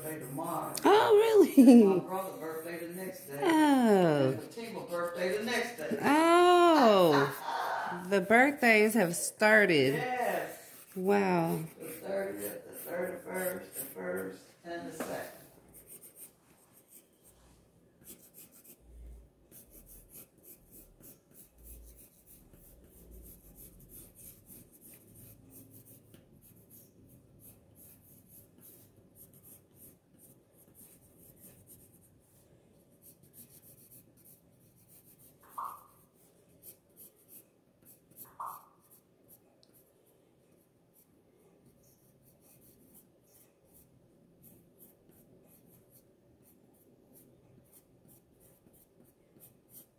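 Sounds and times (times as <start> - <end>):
pencil scratching on paper: 0.0 - 17.3, 18.0 - 39.8, 41.0 - 49.9.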